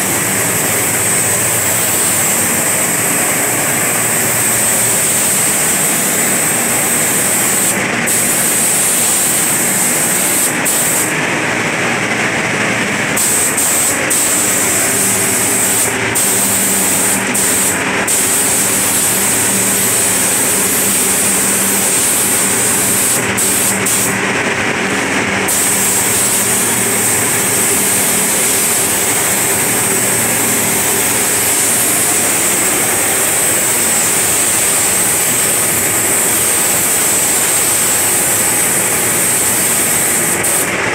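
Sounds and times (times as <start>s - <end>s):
paint spray gun hissing: 0.0s - 11.2s, 13.0s - 24.3s, 25.4s - 40.8s.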